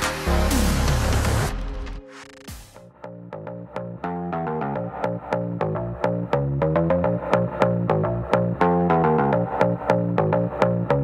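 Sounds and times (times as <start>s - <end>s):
background music with plucked notes: 0.0s - 11.0s.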